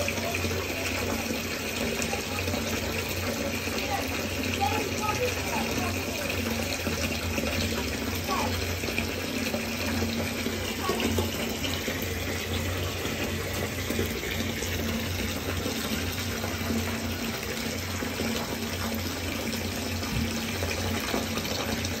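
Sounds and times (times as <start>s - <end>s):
water pouring into bathtub: 0.0s - 22.0s.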